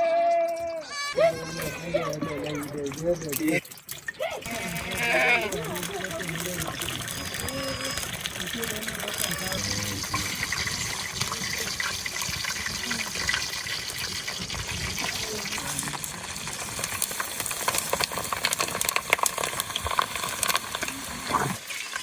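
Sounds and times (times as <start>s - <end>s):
water rushing: 1.2s - 22.0s
small water splashes and patters: 1.5s - 22.0s.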